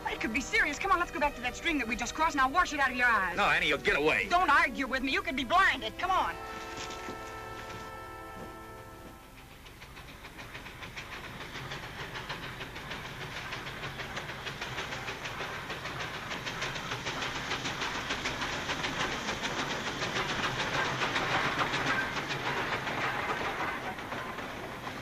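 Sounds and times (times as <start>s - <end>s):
steam locomotive running: 0.0s - 25.0s.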